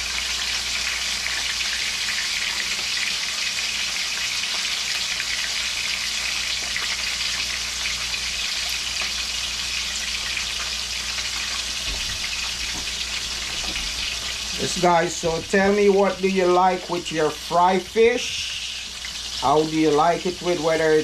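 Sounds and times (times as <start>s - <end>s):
hot oil sizzling in a pan: 0.0s - 21.0s.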